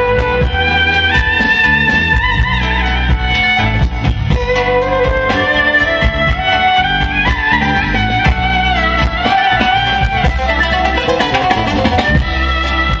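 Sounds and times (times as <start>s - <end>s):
bass: 0.0s - 13.0s
steady drum beat: 0.0s - 13.0s.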